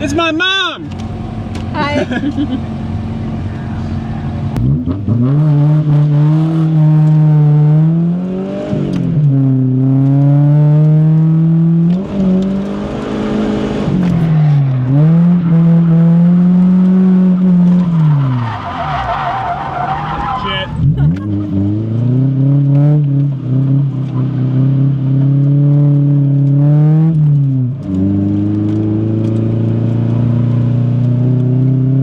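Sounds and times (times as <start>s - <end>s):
car engine revving hard: 1.8s - 32.0s.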